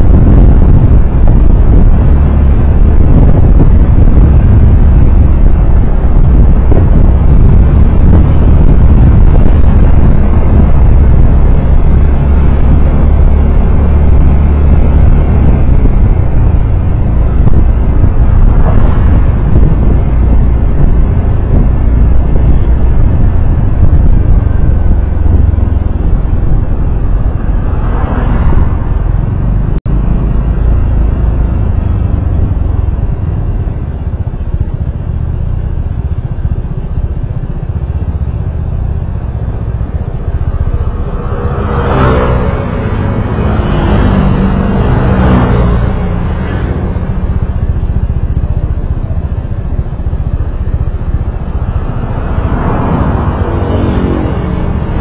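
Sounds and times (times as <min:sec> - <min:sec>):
engine accelerating: 0:00.0 - 0:55.0
vehicle road noise: 0:00.0 - 0:55.0.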